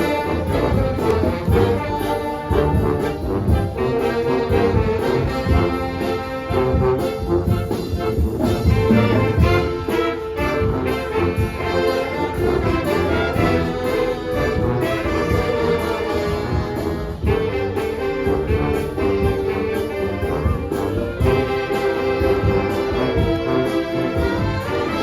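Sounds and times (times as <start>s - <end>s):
brass band playing pop songs: 0.0s - 25.0s.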